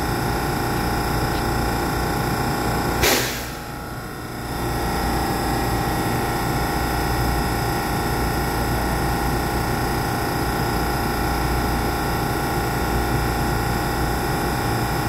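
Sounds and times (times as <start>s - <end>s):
train equipment humming and whining: 0.0s - 15.0s.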